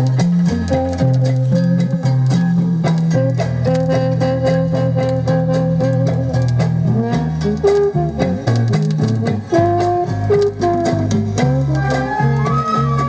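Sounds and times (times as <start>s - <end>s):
instrumental bossa nova: 0.0s - 13.0s.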